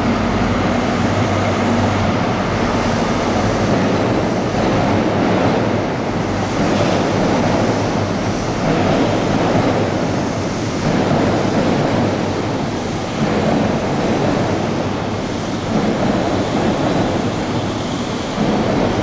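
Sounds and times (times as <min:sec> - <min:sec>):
diesel train rumbling: 0:00.0 - 0:19.0.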